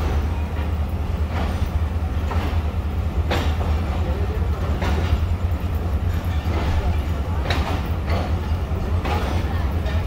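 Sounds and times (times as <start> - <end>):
train rumble: 0.0 - 10.0
wheel clack over rail joints: 0.0 - 10.0.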